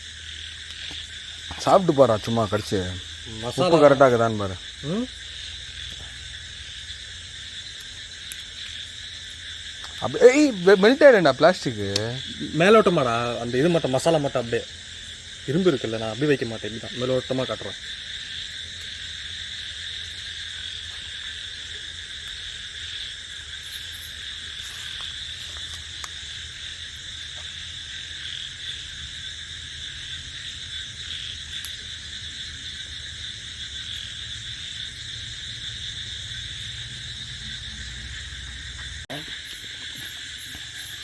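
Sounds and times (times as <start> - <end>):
crickets and frogs calling: 0.0 - 41.0.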